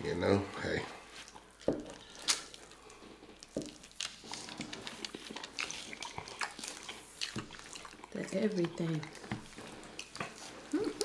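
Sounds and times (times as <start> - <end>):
chewing and mouth smacks: 1.1 - 11.0.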